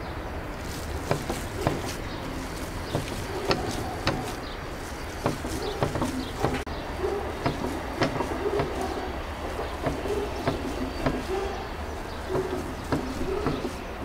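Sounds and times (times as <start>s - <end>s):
hands kneading meat mixture: 0.6s - 14.0s
hands slapping mixture on metal tray: 0.7s - 6.7s, 7.4s - 14.0s.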